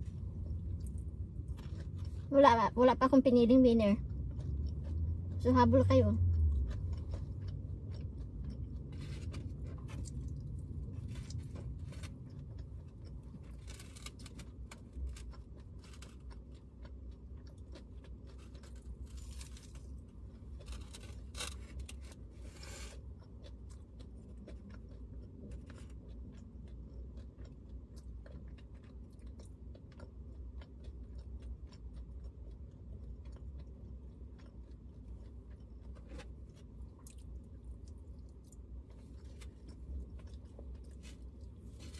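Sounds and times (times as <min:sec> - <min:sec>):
chewing and crunching dry food: 0:00.0 - 0:41.9
steady low hum: 0:00.0 - 0:41.9.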